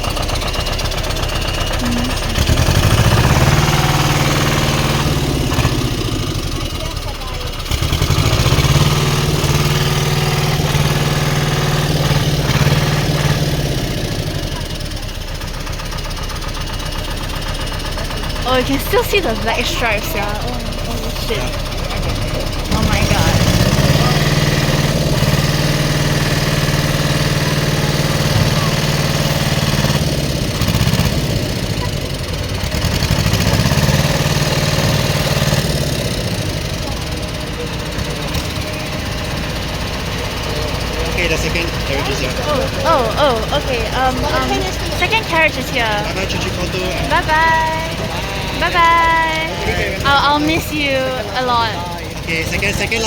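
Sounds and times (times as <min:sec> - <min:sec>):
heavy engine running: 0:00.0 - 0:53.0.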